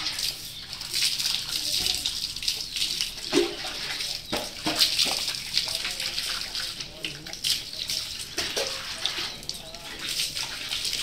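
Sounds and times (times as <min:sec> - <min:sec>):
water splashing and running: 0:00.0 - 0:11.0.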